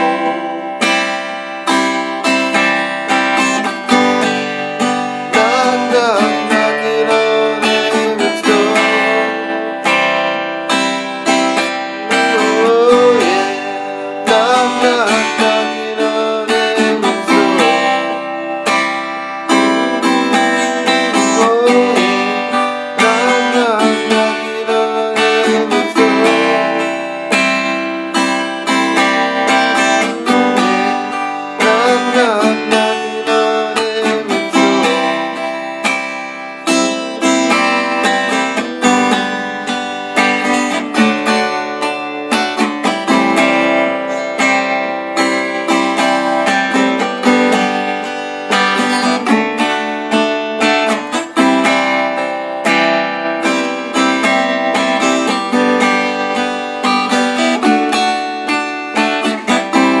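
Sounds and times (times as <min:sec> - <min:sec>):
acoustic guitar strumming chords: 0:00.0 - 1:00.0.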